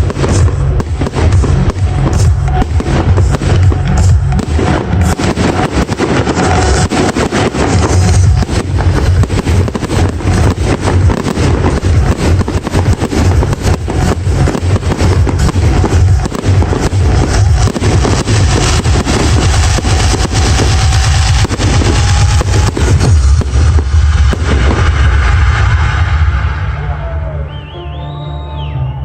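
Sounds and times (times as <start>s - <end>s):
fireworks bangs and crackles: 0.0s - 27.4s
heavy low rumble: 0.0s - 29.0s.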